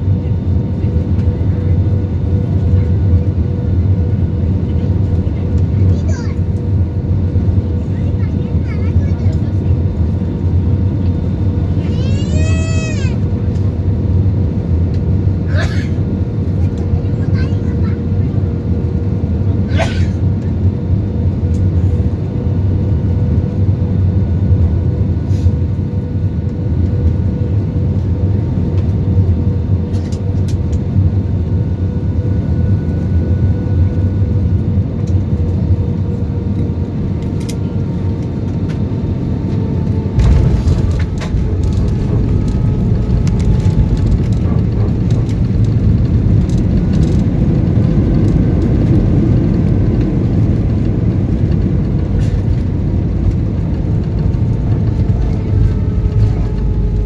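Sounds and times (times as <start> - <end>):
jet engine and airflow drone: 0.0 - 57.0.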